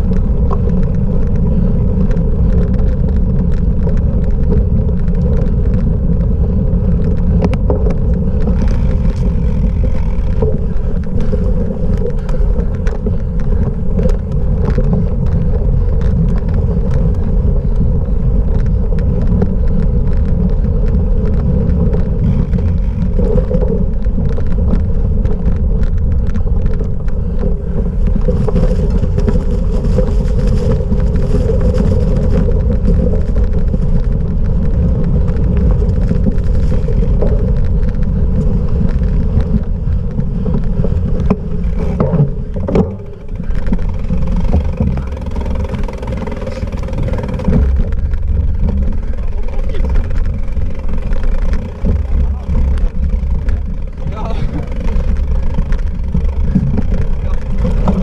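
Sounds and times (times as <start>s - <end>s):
bike knocks and rattles: 0.0s - 58.0s
wind and tyre rumble: 0.0s - 58.0s.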